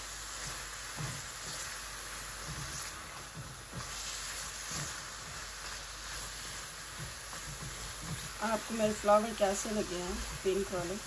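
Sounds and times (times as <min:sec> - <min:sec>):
vegetables sizzling in oil: 0:00.0 - 0:11.0
spatula scraping and knocking pan: 0:00.3 - 0:10.9.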